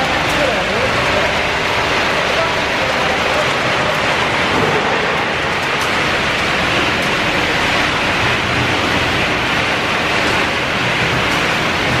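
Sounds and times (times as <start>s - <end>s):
machinery rushing noise: 0.0s - 12.0s.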